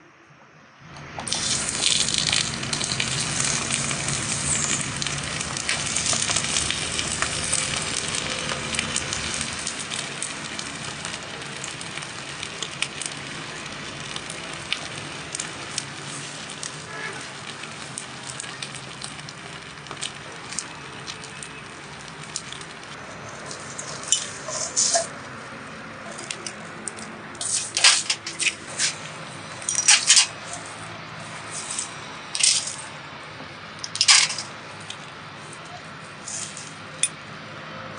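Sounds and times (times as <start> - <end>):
crackles and pops: 0.9 - 37.2
sizzling hiss: 1.2 - 33.1, 33.8 - 37.0.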